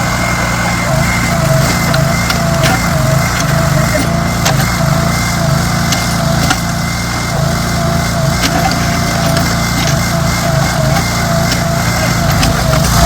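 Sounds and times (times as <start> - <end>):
construction machine engine droning: 0.0 - 13.0.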